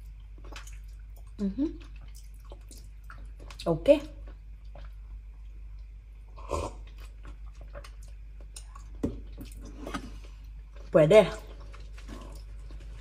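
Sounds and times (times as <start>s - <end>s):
chewing with wet mouth clicks: 0.0s - 6.0s, 6.8s - 13.0s.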